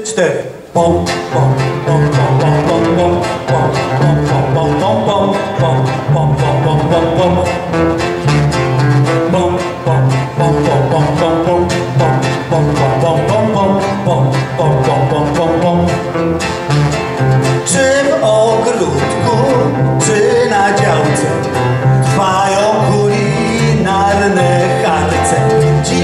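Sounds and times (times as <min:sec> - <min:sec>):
acoustic guitars strumming: 0:00.7 - 0:26.0
upright bass: 0:00.8 - 0:26.0.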